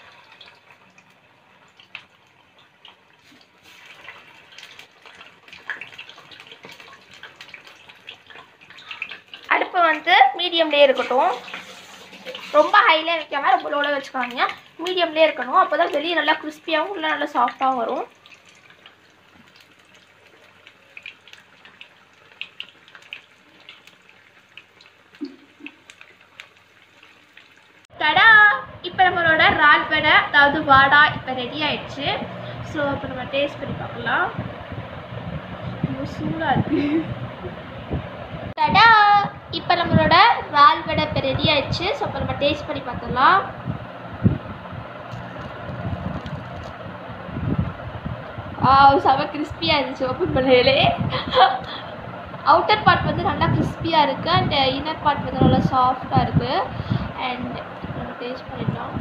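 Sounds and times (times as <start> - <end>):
fritters sizzling in oil: 0.0 - 27.9, 29.2 - 59.0.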